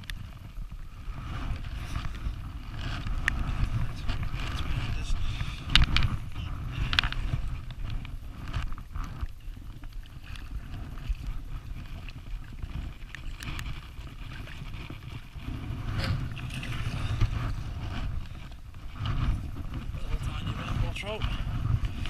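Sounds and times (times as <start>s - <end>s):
wind buffeting microphone: 0.0s - 22.0s
light clicks and rustles: 1.3s - 22.0s.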